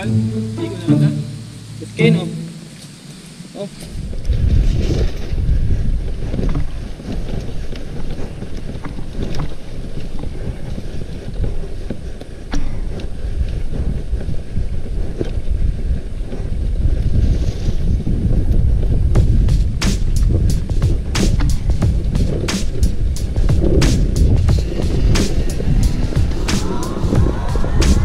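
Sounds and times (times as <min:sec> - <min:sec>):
wind buffeting microphone: 0:02.9 - 0:28.0.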